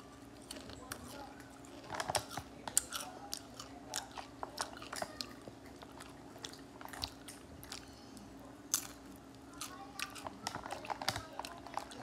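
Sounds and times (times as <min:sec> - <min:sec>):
cat crunching a chip: 0:00.3 - 0:12.0.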